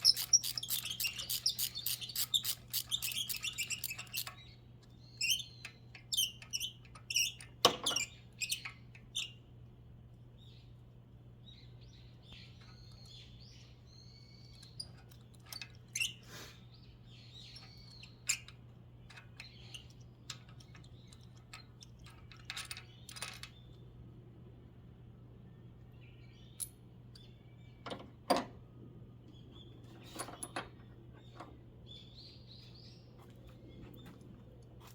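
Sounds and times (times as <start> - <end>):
small birds chirping: 0.0 - 9.5, 10.2 - 23.9, 25.5 - 28.2, 29.2 - 34.9.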